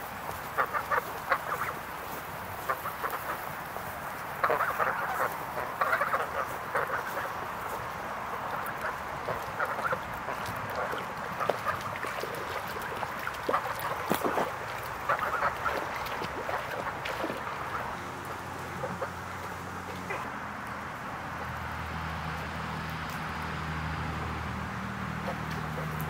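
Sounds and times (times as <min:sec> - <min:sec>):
waterfowl honking and quacking: 0:00.3 - 0:20.3, 0:25.2 - 0:26.0.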